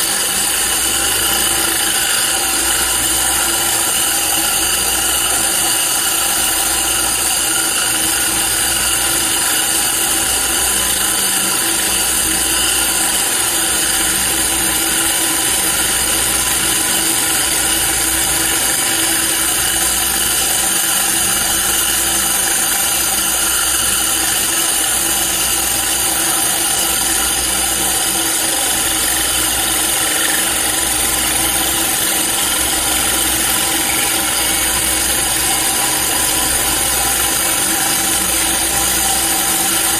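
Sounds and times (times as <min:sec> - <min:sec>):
core drill grinding into stone: 0:00.0 - 0:39.9.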